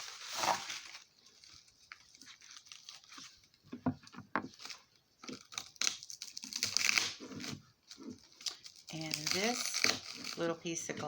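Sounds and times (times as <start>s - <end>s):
packing wrap crinkling: 0.0s - 3.8s, 4.5s - 11.0s.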